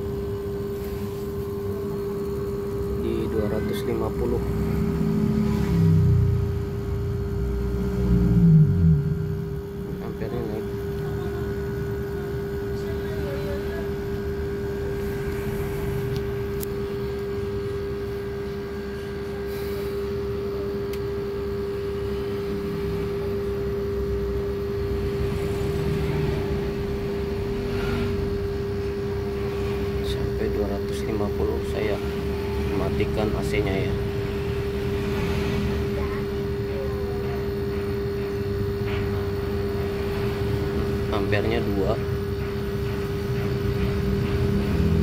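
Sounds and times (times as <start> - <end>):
compressor humming with steady tone: 0.0 - 45.0.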